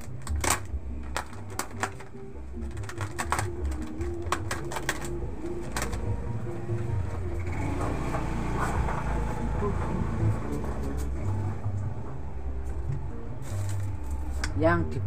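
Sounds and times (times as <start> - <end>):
goods and plastic bottles handled: 0.0 - 11.5, 12.6 - 14.7.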